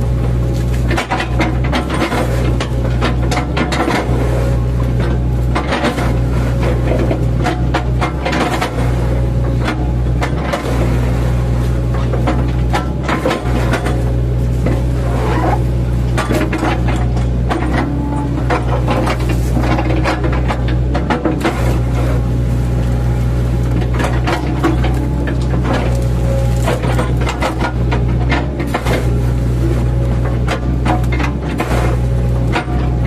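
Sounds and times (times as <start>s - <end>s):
diesel engine running under load: 0.0s - 33.0s
wood crunching and cracking: 0.0s - 33.0s.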